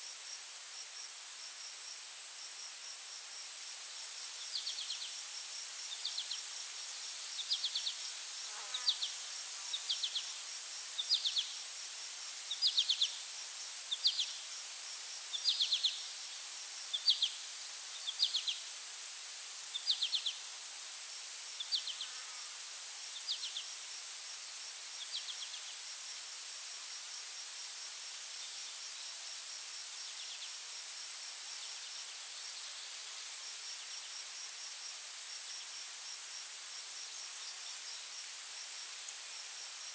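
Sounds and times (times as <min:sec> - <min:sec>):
insect buzz and trill: 0:00.0 - 0:39.9.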